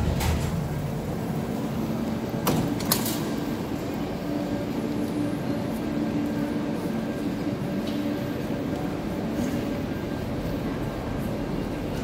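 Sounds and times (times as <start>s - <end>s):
steady low hum: 0.0s - 12.0s
train running noise: 0.0s - 12.0s.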